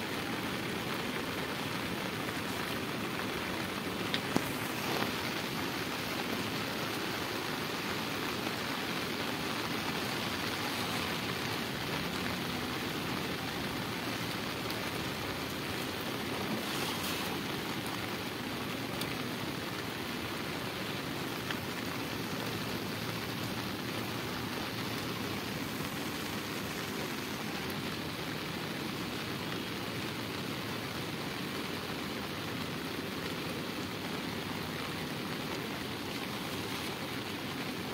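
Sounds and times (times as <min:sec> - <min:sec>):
rain falling on river: 0:00.0 - 0:37.9.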